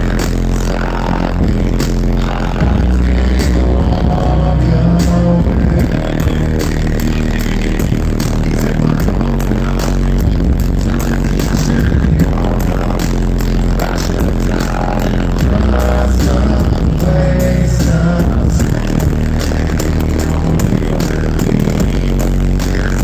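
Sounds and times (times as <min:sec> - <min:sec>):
hip-hop beat with heavy bass: 0:00.0 - 0:23.0
person rapping into microphone: 0:00.0 - 0:23.0.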